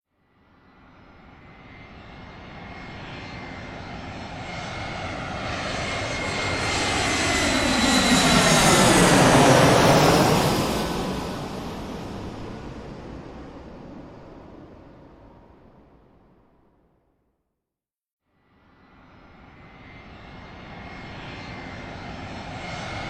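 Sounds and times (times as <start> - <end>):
airplane flying past: 0.7 - 16.1, 18.8 - 23.0.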